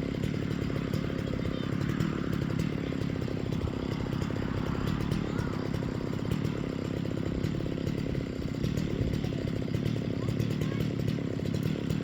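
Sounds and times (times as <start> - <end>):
two-stroke chainsaw engine running: 0.0 - 12.0.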